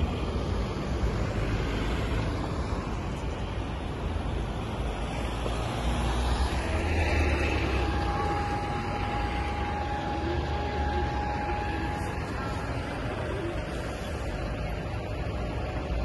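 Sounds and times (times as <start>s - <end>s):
bus rumbling past: 0.0s - 16.0s
city street traffic: 0.0s - 16.0s
steady high whine: 0.0s - 16.0s.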